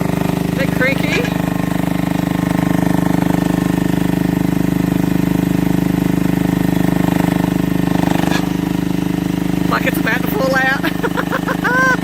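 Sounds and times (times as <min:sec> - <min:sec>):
mini excavator engine running: 0:00.0 - 0:12.0.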